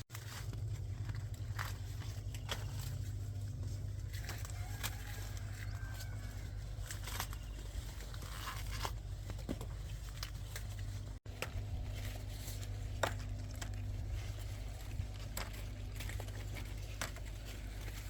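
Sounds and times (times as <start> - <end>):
dry corn husks rustling: 0.0 - 18.0
steady low hum: 0.0 - 18.0.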